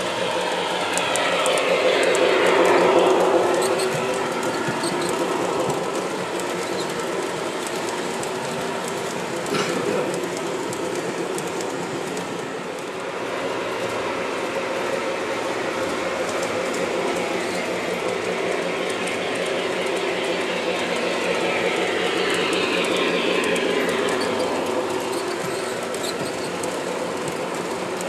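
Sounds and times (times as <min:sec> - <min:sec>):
wheels clicking over rails: 0:00.0 - 0:28.0.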